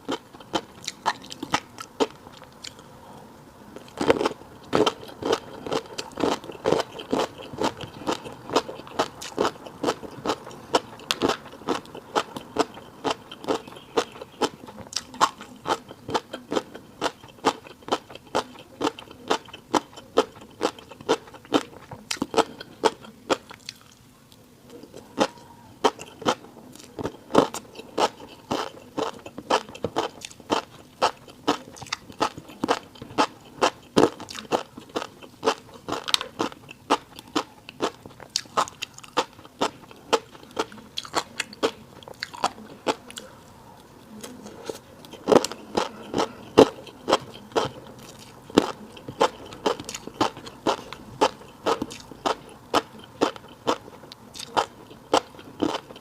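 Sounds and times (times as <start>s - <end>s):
crunchy chewing: 0.0s - 2.9s, 3.8s - 56.0s.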